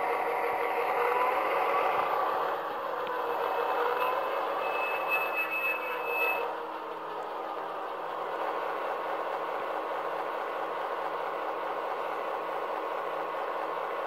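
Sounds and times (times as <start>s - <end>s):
model locomotive diesel engine drone: 0.0s - 14.0s.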